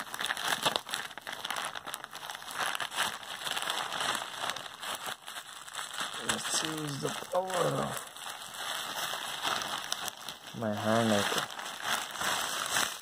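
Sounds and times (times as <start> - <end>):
plastic bag tearing: 0.0 - 13.0
plastic mailer bag crinkling: 0.0 - 13.0.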